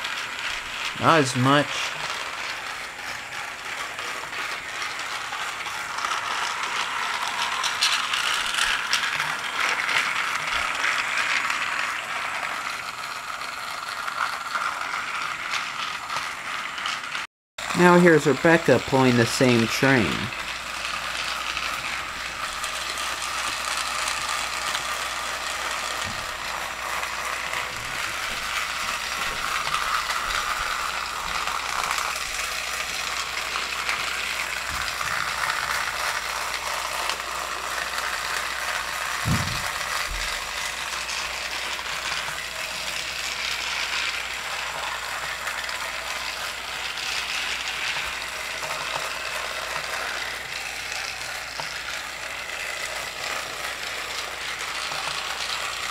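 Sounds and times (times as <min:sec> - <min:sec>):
toy train motor whirring: 0:00.0 - 0:55.9.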